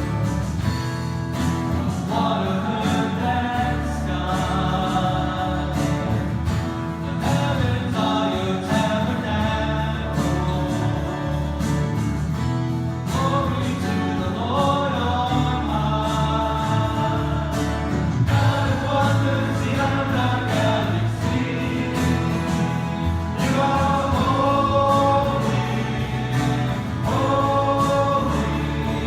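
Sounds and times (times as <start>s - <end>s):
congregation singing worship song: 0.0s - 29.0s
worship band playing: 1.5s - 29.0s.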